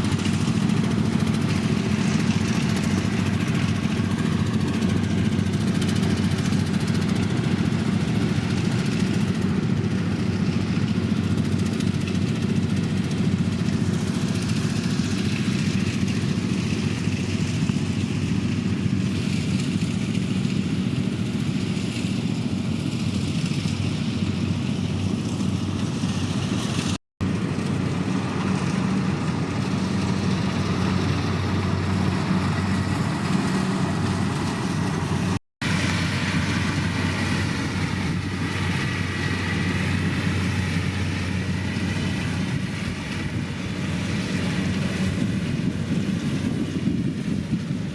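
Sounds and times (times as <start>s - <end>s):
combine harvester engine drone: 0.0s - 47.9s.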